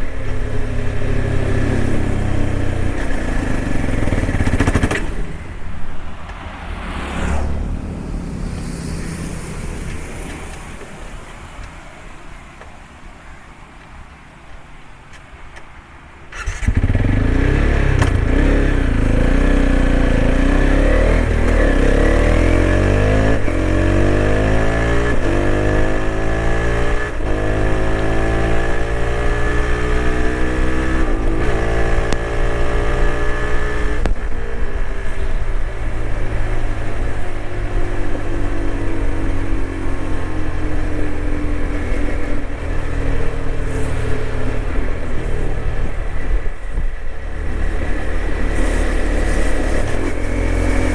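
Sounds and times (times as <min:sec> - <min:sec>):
motorcycle engine accelerating: 0:00.0 - 0:11.4, 0:16.3 - 0:50.9.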